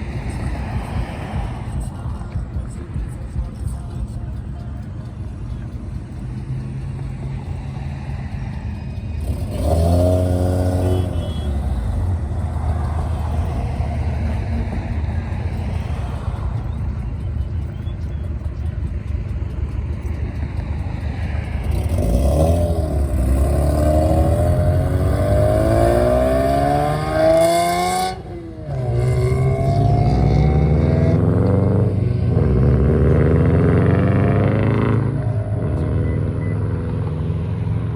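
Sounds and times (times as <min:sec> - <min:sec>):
car accelerating away: 0:00.0 - 0:37.9
car engine revving: 0:00.0 - 0:37.9.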